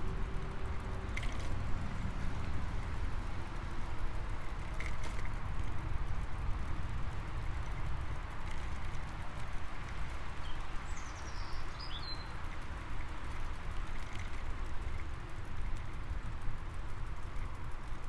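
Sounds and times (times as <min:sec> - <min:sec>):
bicycle ride rumble: 0:00.0 - 0:18.0.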